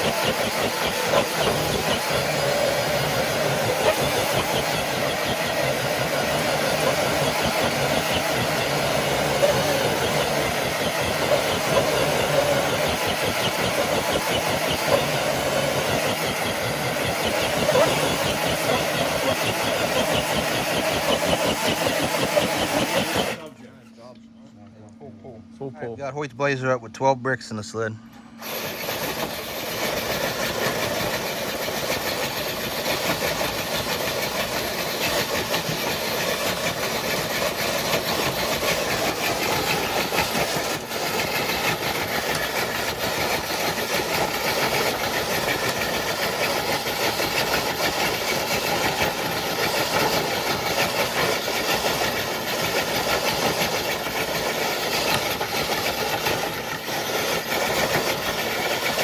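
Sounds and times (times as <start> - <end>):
electric motor and gearbox whirring: 0.0 - 23.8, 28.1 - 59.0.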